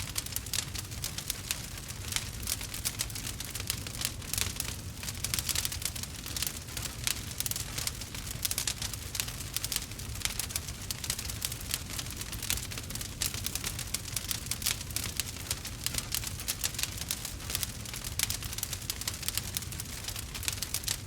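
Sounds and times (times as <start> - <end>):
burning wood crackling: 0.0 - 21.0.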